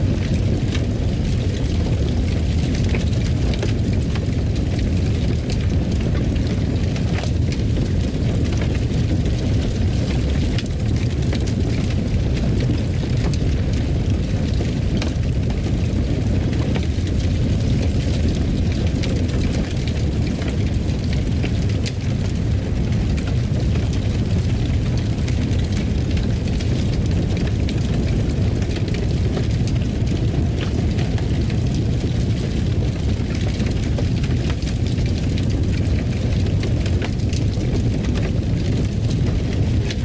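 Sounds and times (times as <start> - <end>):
fire crackling: 0.0 - 40.0
fire rumbling: 0.0 - 40.0.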